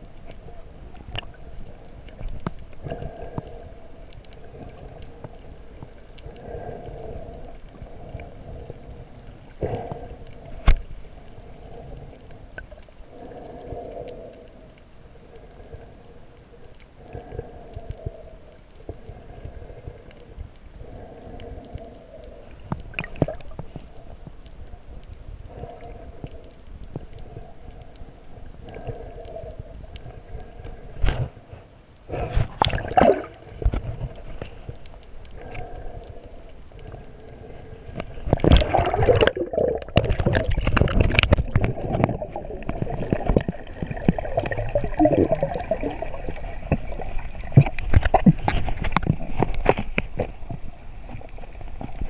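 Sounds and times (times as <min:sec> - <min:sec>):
water splashing and bubbling: 0:00.0 - 0:31.4, 0:32.1 - 0:52.0
faint underwater hum: 0:00.0 - 0:52.0.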